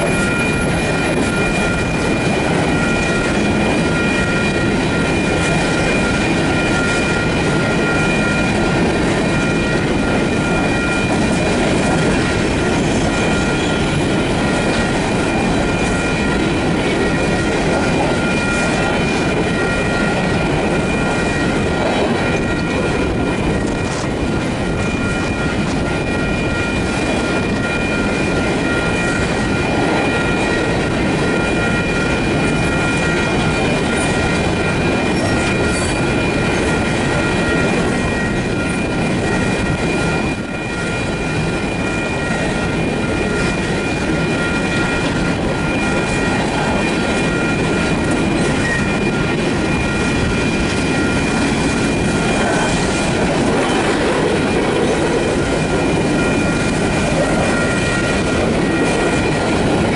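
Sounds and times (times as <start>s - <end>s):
high-pitched ringing tones: 0.0s - 59.9s
train wheels on track: 0.0s - 59.9s.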